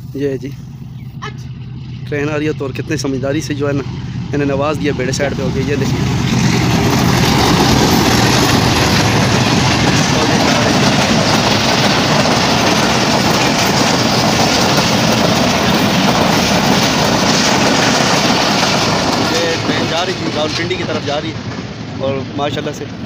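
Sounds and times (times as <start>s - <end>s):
train passing close: 0.0s - 23.0s
wheels running over rails: 3.2s - 22.8s.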